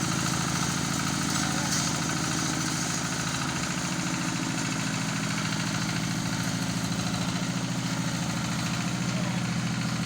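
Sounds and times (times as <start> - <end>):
harvester engine running: 0.0 - 10.0.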